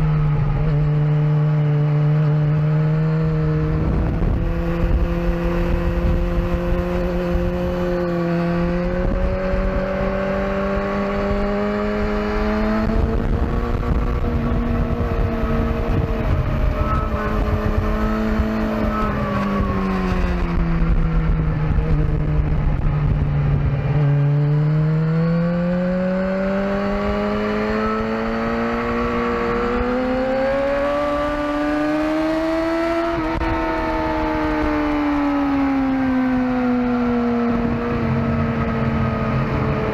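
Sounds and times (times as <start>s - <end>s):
sport bike engine revving: 0.0s - 20.5s, 23.8s - 39.9s
wind rush on microphone: 2.3s - 39.9s.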